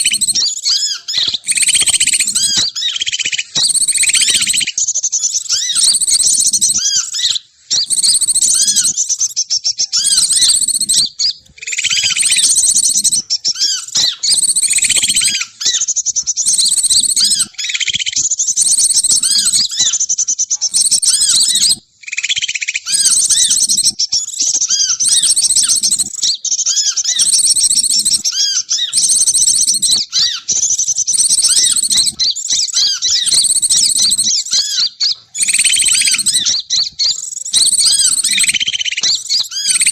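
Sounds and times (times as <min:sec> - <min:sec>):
small birds chirping and chattering: 0:00.0 - 0:39.9.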